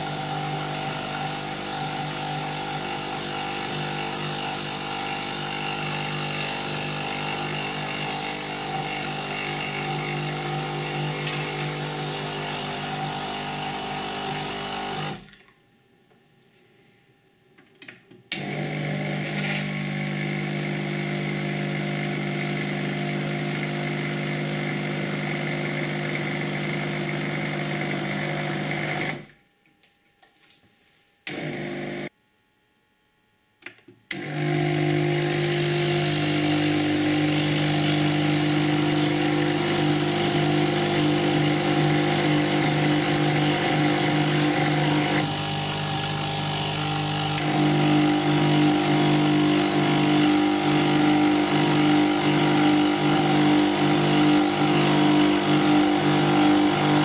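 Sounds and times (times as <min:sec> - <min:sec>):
espresso machine pump hum: 0:00.0 - 0:15.2, 0:18.4 - 0:29.2, 0:31.3 - 0:32.1, 0:34.2 - 0:57.0.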